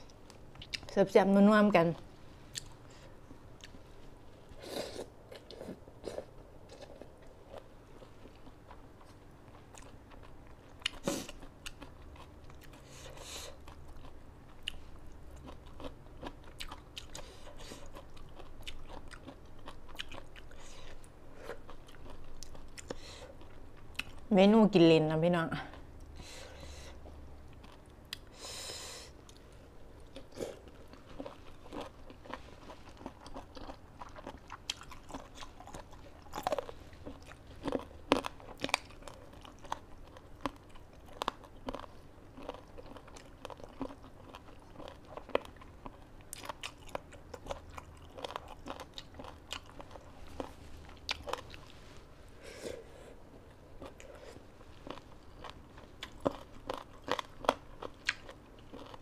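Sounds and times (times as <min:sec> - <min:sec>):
person chewing with crunches: 0:02.5 - 0:24.2, 0:25.7 - 0:59.0.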